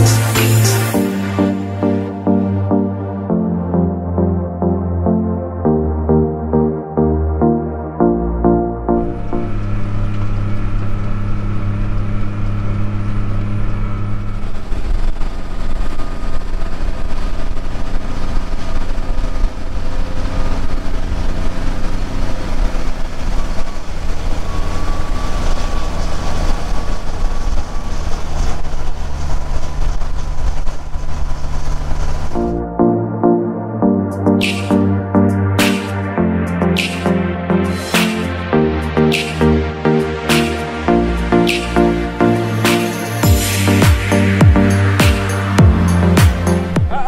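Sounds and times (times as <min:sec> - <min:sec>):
tractor diesel engine drone: 0:00.0 - 0:47.0.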